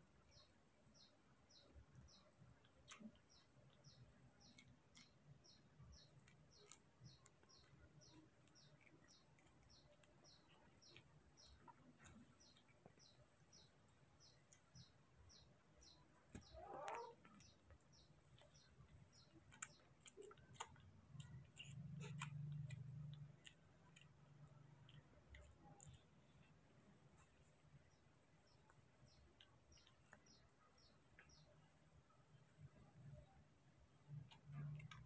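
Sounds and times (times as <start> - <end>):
bird chirping: 0.2 - 35.0.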